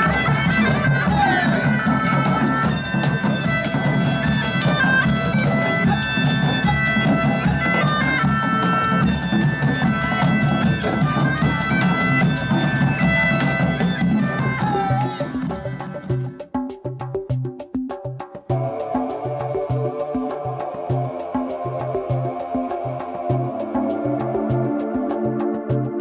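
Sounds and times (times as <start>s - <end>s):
bagpipe melody with drones: 0.0s - 16.4s, 18.5s - 25.2s
drum beating: 0.0s - 26.0s.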